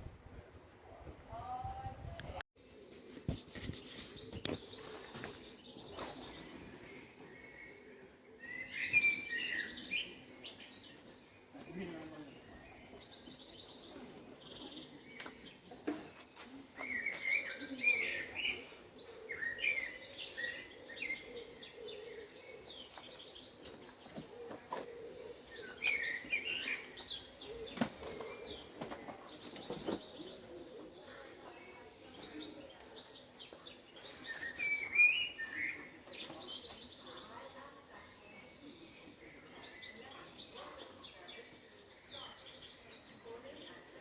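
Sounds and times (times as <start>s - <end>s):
small birds chirping: 0.6s - 44.0s.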